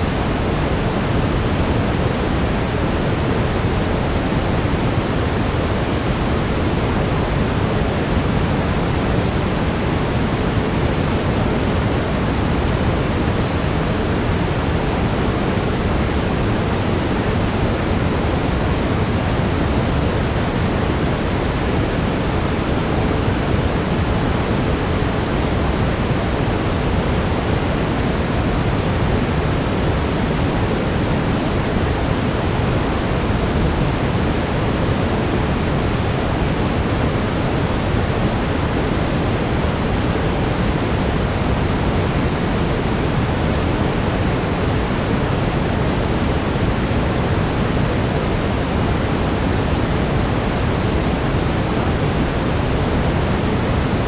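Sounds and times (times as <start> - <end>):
brown noise rushing hiss: 0.0 - 54.0.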